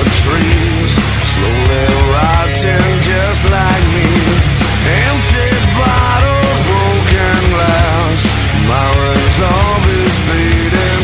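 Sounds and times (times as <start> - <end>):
rock song: 0.0 - 11.0.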